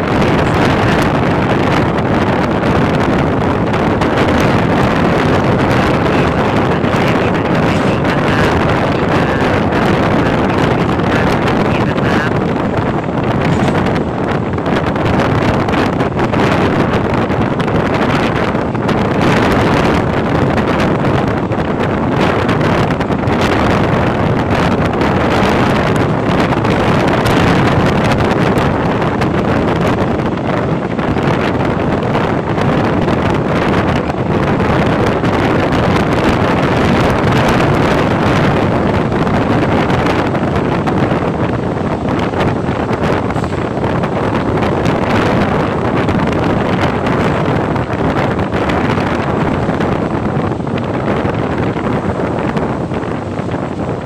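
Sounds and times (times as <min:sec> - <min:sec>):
train rumbling on rails: 0:00.0 - 0:54.0
wind buffeting microphone: 0:00.0 - 0:54.0.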